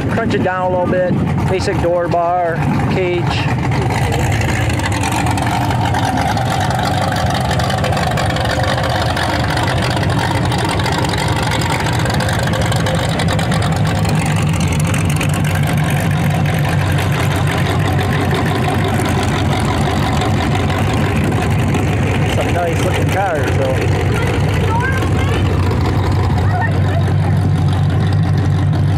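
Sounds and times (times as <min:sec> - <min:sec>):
car engines running: 0:00.0 - 0:28.9.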